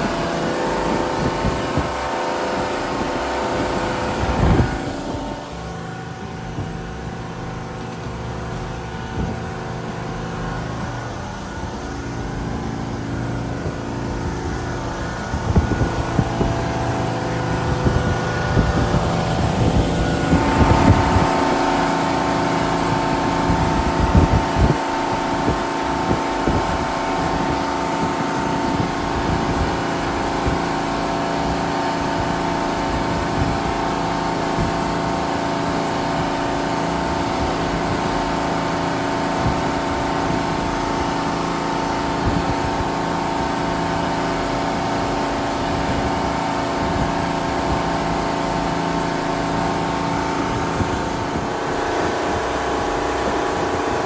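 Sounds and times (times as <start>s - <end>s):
boat engine running: 0.0s - 54.0s
wind on microphone: 0.0s - 54.0s.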